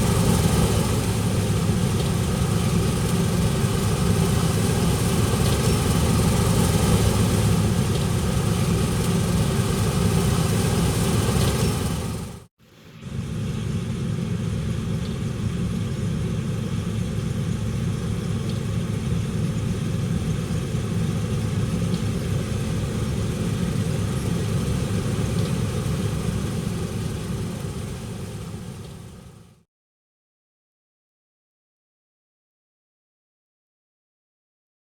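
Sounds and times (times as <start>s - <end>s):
diesel engine running: 0.0s - 29.6s.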